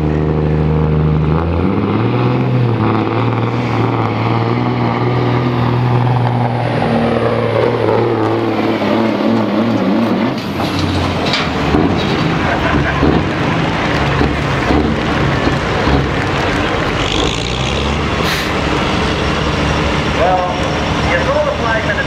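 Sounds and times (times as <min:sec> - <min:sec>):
diesel engine revving under load: 0:00.0 - 0:22.0.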